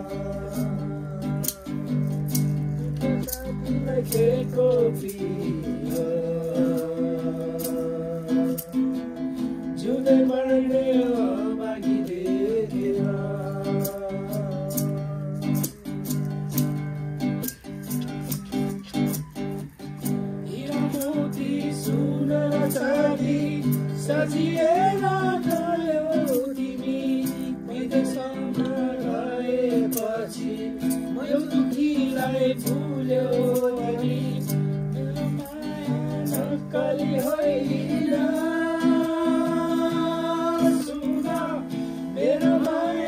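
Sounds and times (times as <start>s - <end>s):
song with acoustic guitar and beat: 0.0s - 43.0s.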